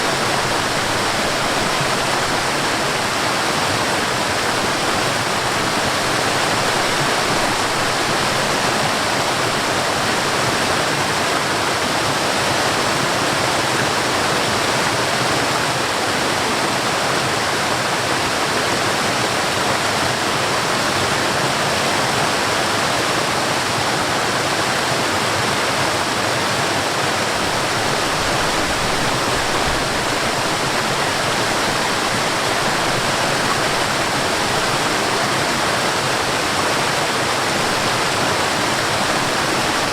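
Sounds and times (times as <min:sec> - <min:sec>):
small waterfall: 0:00.0 - 0:39.9
stream flowing: 0:00.0 - 0:39.9.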